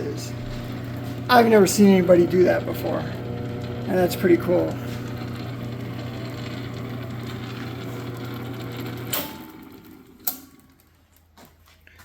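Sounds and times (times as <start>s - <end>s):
lathe motor humming: 0.0s - 10.8s.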